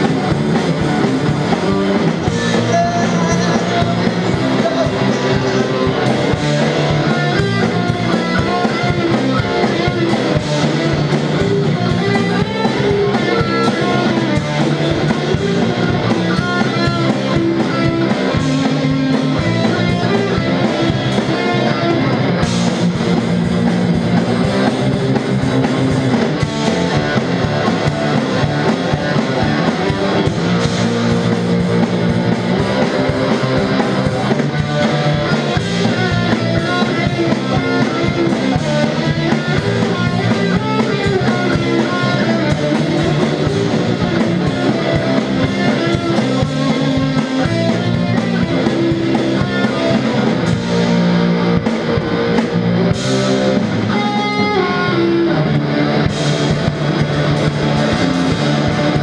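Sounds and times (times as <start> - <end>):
bass guitar: 0.0 - 59.0
distorted electric guitar: 0.0 - 59.0
drum kit: 0.0 - 59.0.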